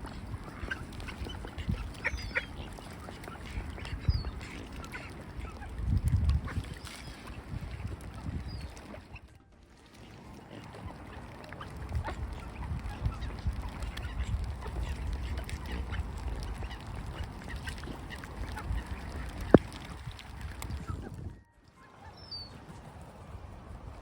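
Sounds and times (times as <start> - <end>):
wind rumble on microphone: 0.0 - 9.4, 10.6 - 21.5, 22.4 - 24.0
ducks and swans calling: 0.0 - 21.1.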